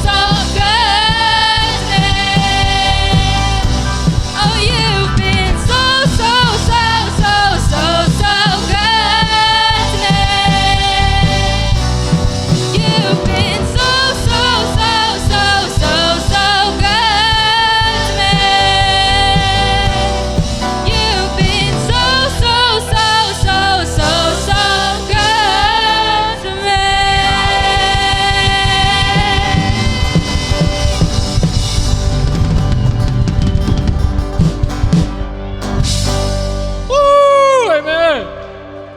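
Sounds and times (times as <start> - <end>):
gospel singers: 0.0 - 31.9
drum kit: 0.0 - 37.6
guitar: 0.0 - 38.9.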